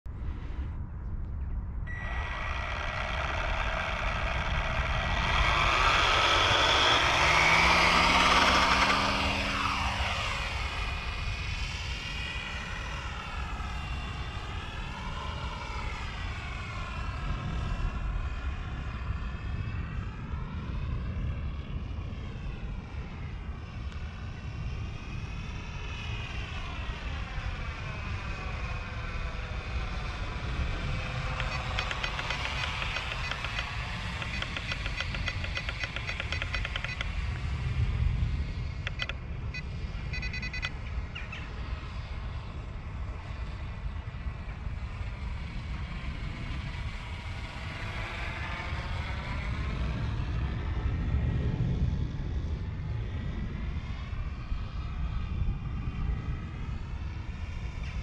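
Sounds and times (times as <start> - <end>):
model airplane motor whine: 1.9 - 51.5.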